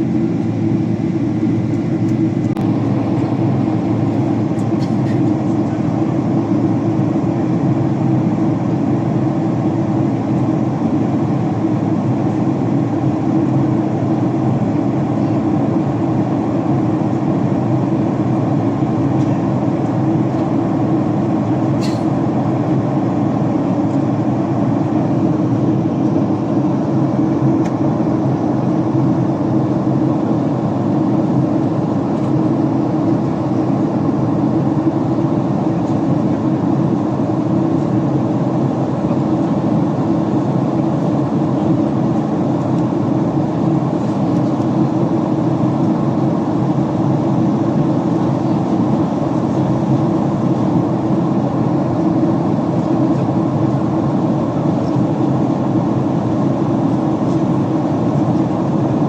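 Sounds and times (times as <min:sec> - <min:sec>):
airliner cabin engine noise: 0:00.0 - 0:59.0.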